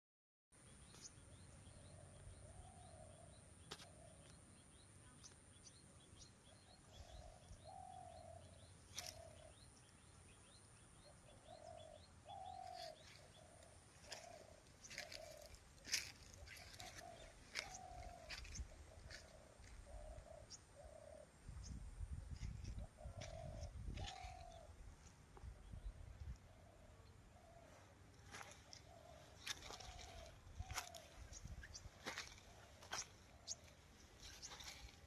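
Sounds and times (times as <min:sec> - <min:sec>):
small birds chirping: 0:00.6 - 0:35.0
dove cooing: 0:01.7 - 0:04.3, 0:06.4 - 0:09.7, 0:10.4 - 0:21.5, 0:22.3 - 0:24.8, 0:25.6 - 0:35.0.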